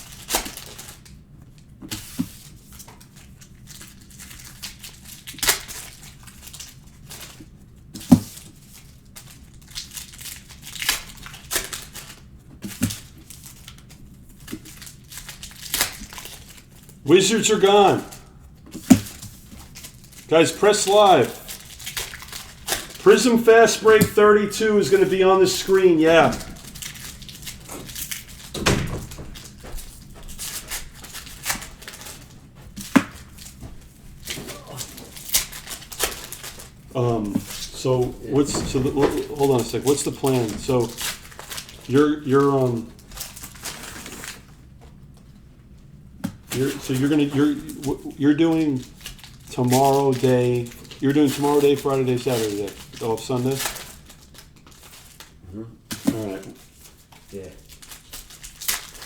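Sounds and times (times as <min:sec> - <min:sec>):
wrappers crinkling and tearing: 0:00.0 - 0:44.6, 0:46.4 - 0:59.0
cards rustling and tapping: 0:01.7 - 0:45.4, 0:46.2 - 0:59.0.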